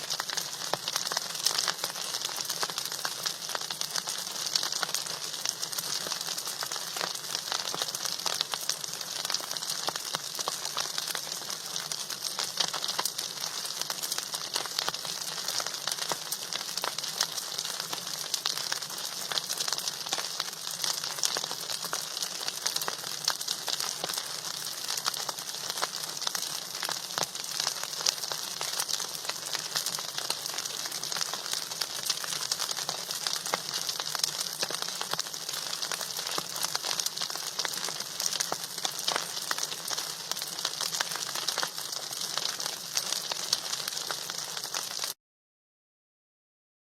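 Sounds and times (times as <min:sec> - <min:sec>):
curry sizzling in a pan: 0:00.0 - 0:45.2.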